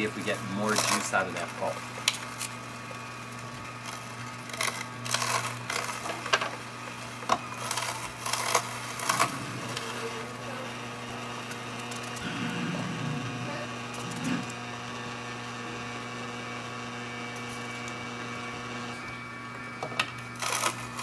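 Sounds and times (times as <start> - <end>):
juicer motor humming: 0.0 - 21.0
produce crunching in juicer: 0.0 - 21.0.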